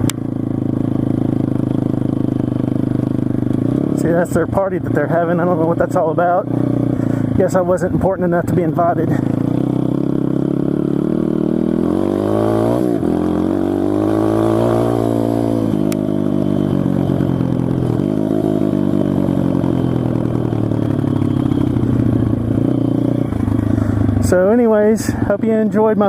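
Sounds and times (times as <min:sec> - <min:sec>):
motorbike engine revving: 0:00.0 - 0:25.7.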